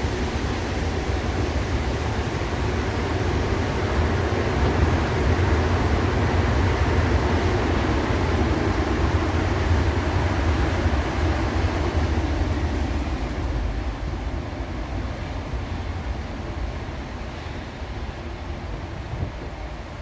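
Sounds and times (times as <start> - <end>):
train car rumbling: 0.0 - 20.0.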